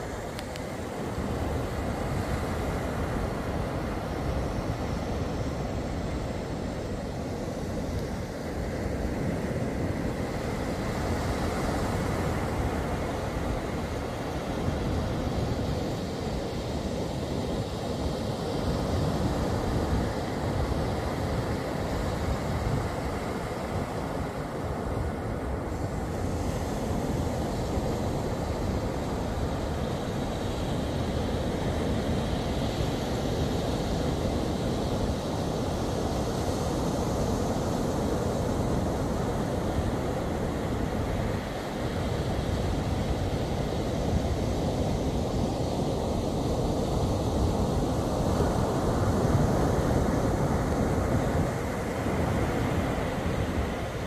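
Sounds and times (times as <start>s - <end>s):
wind and surf rushing: 0.0s - 54.0s.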